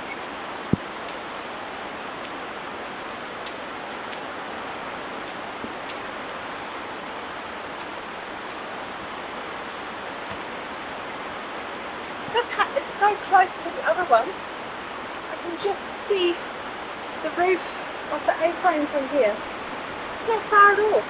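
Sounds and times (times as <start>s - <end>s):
single raindrops ticking: 0.0s - 21.0s
steady rain hiss: 0.0s - 21.0s.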